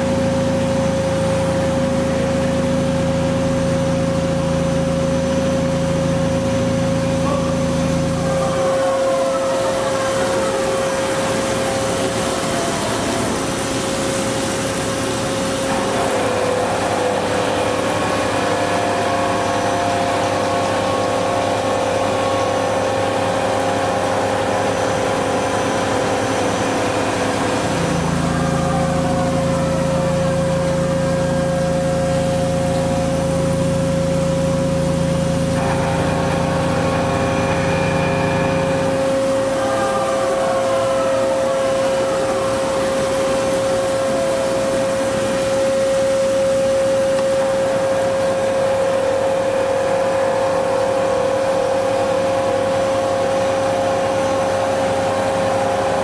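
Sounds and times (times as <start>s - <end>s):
hiss of cutting and coolant spray: 0.0s - 49.8s
low hum: 0.0s - 56.0s
spindle whine: 0.0s - 56.0s.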